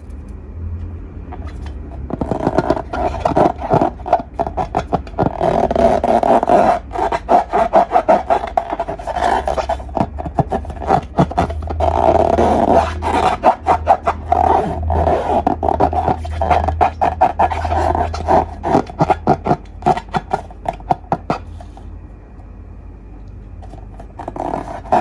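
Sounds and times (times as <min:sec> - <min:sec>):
slime squelching: 0:01.4 - 0:21.8.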